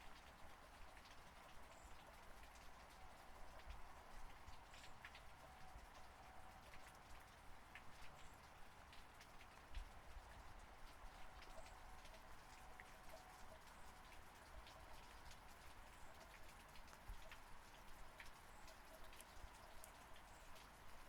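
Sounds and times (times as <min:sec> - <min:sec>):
steady rain hiss: 0:00.0 - 0:21.0
raindrops ticking: 0:00.1 - 0:21.0.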